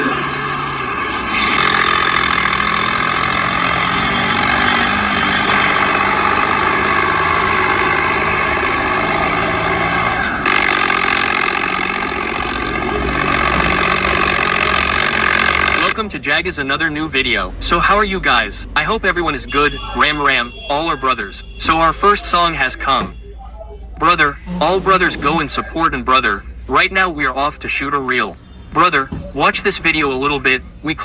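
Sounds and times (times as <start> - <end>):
vehicle engine running: 0.0 - 28.1.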